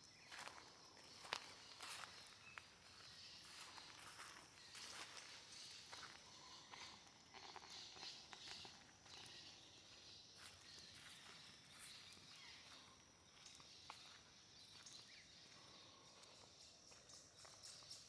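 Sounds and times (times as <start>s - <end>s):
high-pitched insect chorus: 0.0s - 18.0s
footsteps on forest floor: 0.2s - 7.8s, 10.4s - 17.5s.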